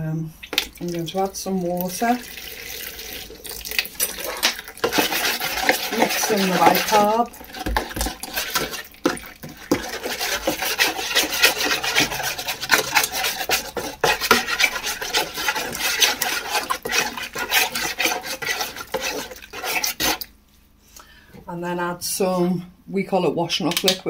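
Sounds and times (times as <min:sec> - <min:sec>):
paste stirred in a bowl: 0:00.4 - 0:20.4.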